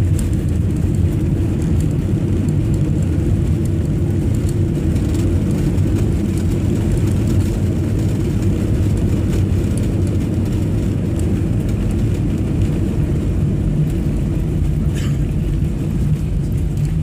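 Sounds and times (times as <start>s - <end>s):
airliner engines rumbling: 0.0s - 17.0s
wheels rolling on concrete: 0.0s - 17.0s.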